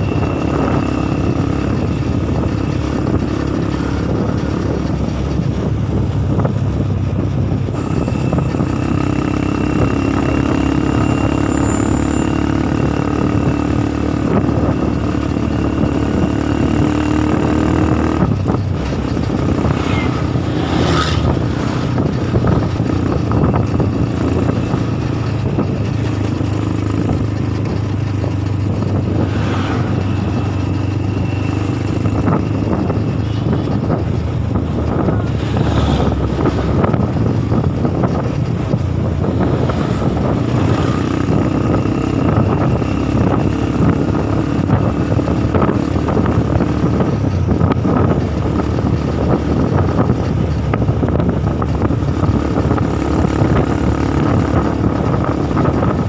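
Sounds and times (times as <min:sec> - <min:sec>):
bus engine: 0:00.0 - 0:56.0
motorcycle engine running: 0:00.0 - 0:56.0
road and wind noise: 0:00.0 - 0:56.0.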